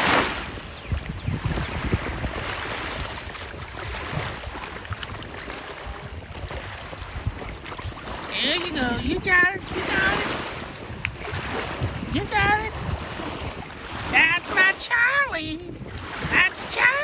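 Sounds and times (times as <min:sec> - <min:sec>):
ocean surf on beach: 0:00.0 - 0:17.0
wind rumbling on microphone: 0:00.0 - 0:17.0.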